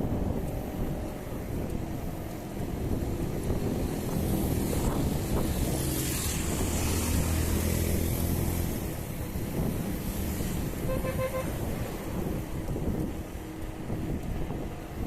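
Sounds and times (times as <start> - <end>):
vehicle engine rumbling: 0.0 - 15.0
wind rushing over microphone: 0.0 - 15.0.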